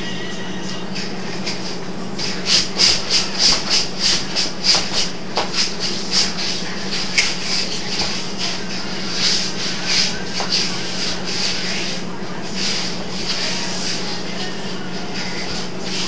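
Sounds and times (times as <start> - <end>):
low hum and hiss: 0.0 - 16.0
rhythmic rubbing strokes: 0.0 - 16.0.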